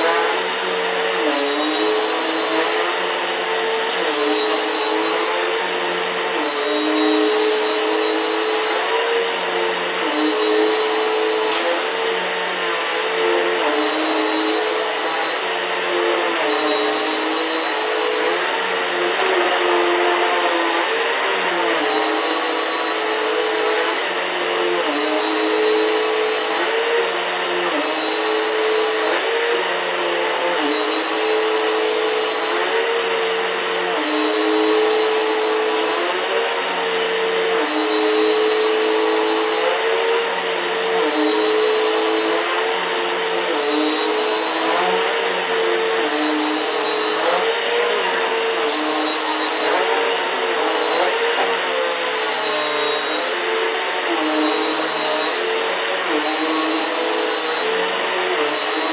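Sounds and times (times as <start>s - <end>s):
vacuum cleaner whining: 0.0s - 58.9s.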